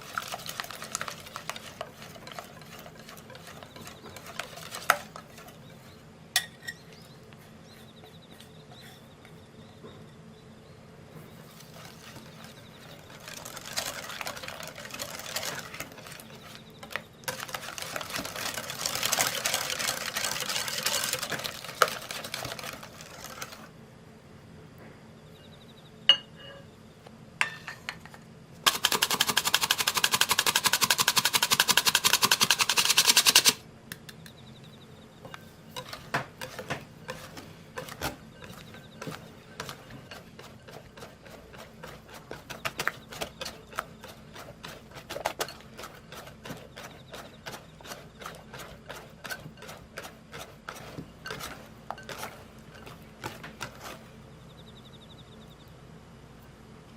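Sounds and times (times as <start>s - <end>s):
scraping and stirring batter: 0.0s - 9.8s, 11.2s - 23.7s, 28.7s - 33.5s, 35.2s - 55.0s.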